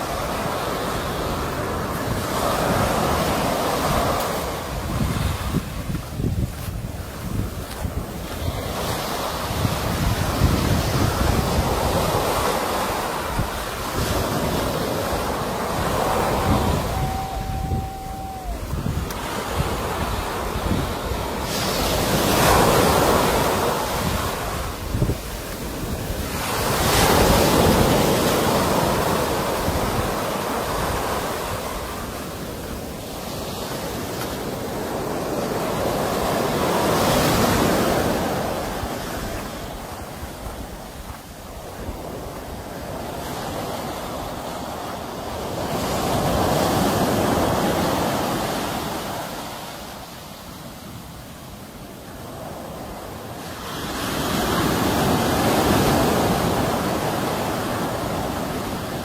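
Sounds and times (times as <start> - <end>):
wind buffeting microphone: 0.0 - 50.0
sea waves breaking: 0.0 - 59.0.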